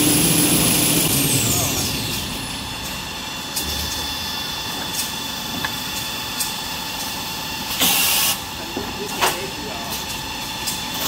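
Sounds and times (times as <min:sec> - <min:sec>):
machine humming with high whine: 0:00.0 - 0:11.0.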